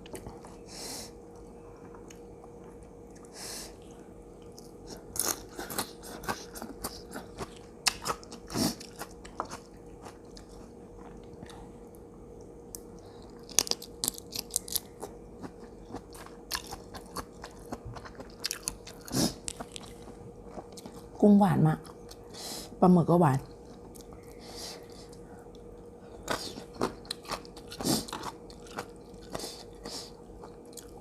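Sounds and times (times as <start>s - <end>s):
faint steady hum: 0.0s - 31.0s
crunchy chewing: 1.3s - 12.1s, 12.7s - 21.2s, 23.4s - 31.0s.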